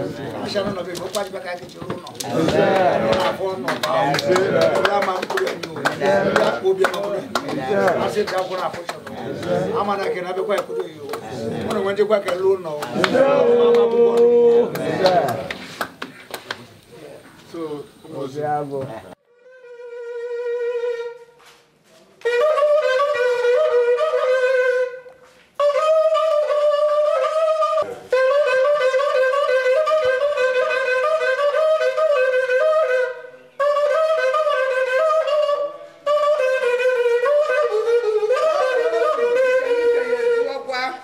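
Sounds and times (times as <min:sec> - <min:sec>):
wind instrument melody: 0:00.0 - 0:15.6, 0:19.1 - 0:41.0.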